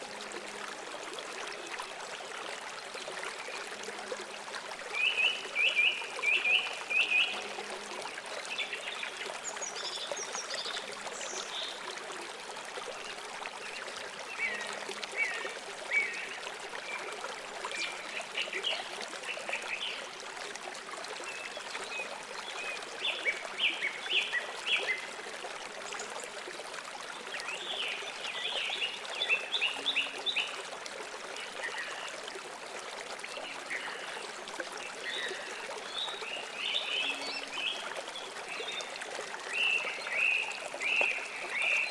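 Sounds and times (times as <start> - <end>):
stream flowing: 0.0 - 41.9.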